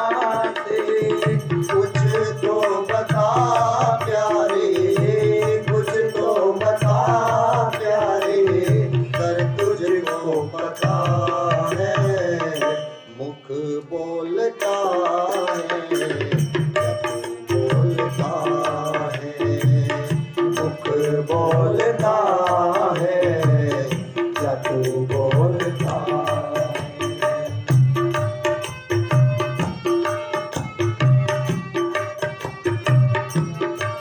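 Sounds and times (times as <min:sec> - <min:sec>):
tabla rhythm: 0:00.0 - 0:13.4, 0:14.4 - 0:34.0.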